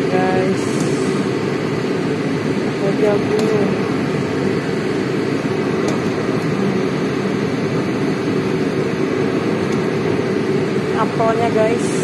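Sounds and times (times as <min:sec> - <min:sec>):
mechanical hum with rushing air: 0:00.0 - 0:12.0.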